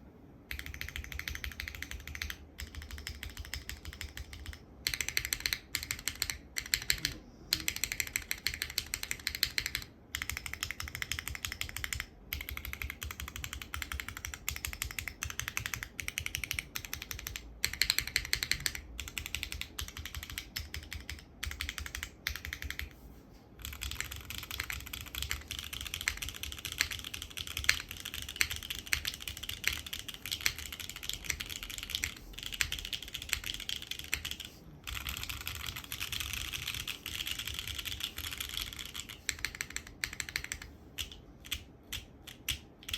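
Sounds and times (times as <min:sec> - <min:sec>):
mechanical keyboard keys clacking: 0:00.5 - 0:22.9, 0:23.6 - 0:42.9.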